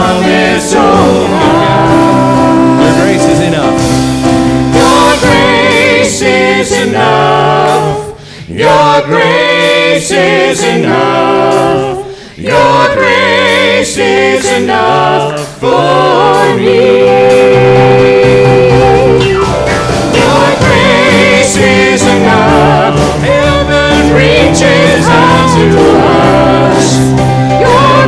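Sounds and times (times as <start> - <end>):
group singing worship song: 0.0 - 28.0
music: 0.0 - 28.0.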